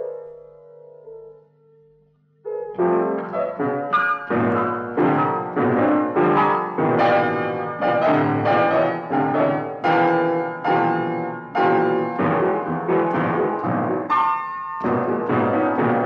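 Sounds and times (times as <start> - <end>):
piano tone clusters: 0.0 - 16.0.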